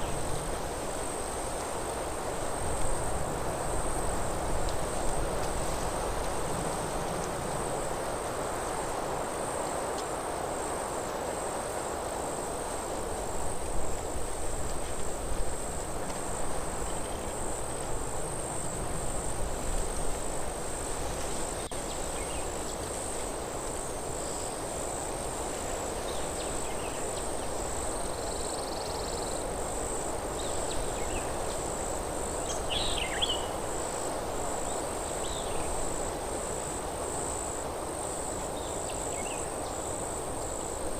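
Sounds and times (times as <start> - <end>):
insect trill: 0.0 - 40.9
wind rustling through trees: 0.0 - 40.9.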